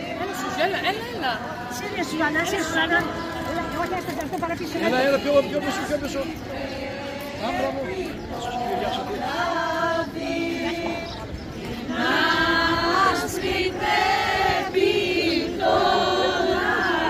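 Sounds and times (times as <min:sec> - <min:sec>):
group singing a folk song: 0:00.0 - 0:17.0.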